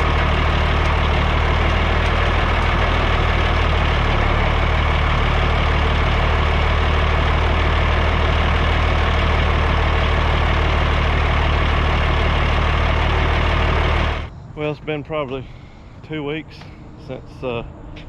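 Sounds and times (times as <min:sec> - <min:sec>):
heavy vehicle engine idling: 0:00.0 - 0:18.0.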